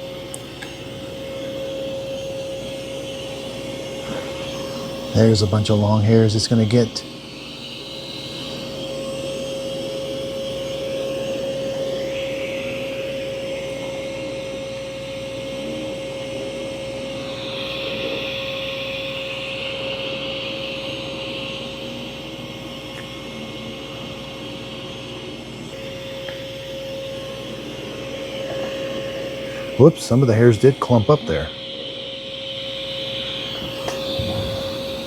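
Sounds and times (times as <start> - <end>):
robot vacuum running: 0.0 - 35.0.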